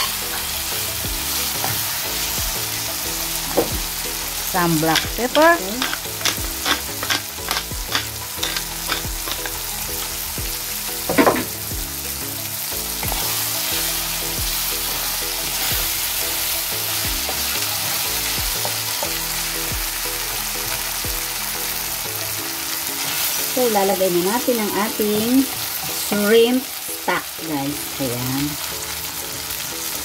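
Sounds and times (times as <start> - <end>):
meat and clams sizzling in pan: 0.0 - 30.0.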